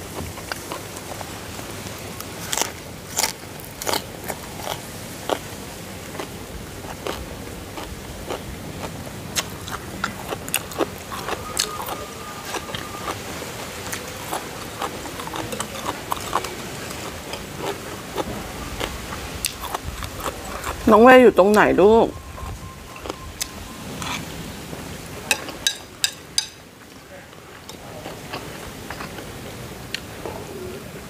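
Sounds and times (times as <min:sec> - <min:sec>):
chewing crunchy vegetables: 0:00.0 - 0:24.3, 0:25.3 - 0:30.4.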